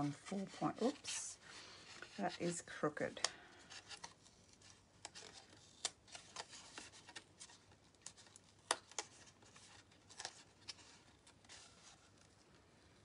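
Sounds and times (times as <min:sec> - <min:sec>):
paper card rustling and scraping: 0:00.0 - 0:02.8, 0:03.6 - 0:12.5.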